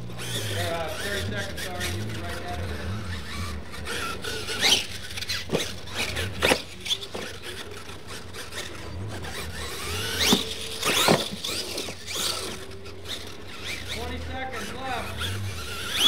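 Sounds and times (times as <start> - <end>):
toy truck motor whining: 0.0 - 16.0.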